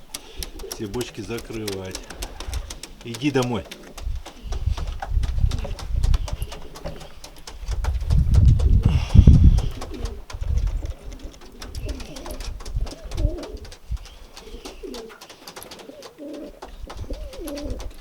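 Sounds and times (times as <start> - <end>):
pigeons cooing: 0.0 - 18.0
small clicks: 0.0 - 18.0.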